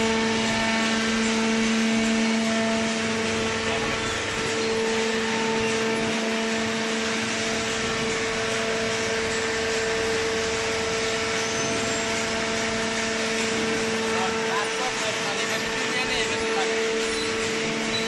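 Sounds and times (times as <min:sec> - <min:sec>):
electric motor and pump humming: 0:00.0 - 0:18.0.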